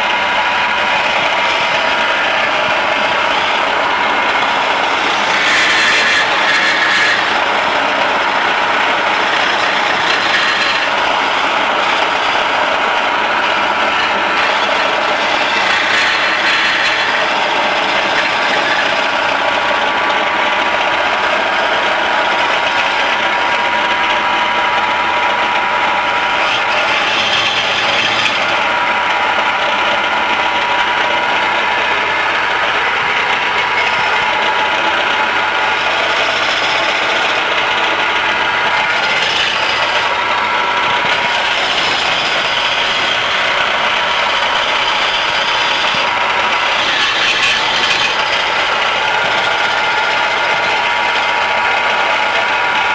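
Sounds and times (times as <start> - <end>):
turning tool scraping wood: 0.0 - 52.9
wood lathe running: 0.0 - 52.9.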